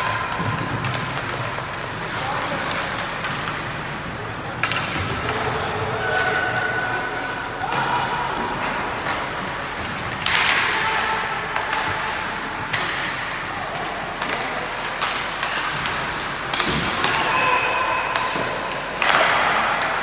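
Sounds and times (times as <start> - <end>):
puck and sticks striking boards: 0.0 - 20.0.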